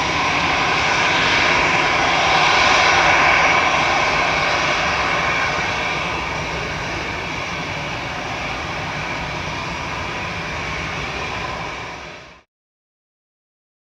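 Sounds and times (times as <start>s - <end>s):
jet engines whining: 0.0s - 12.5s.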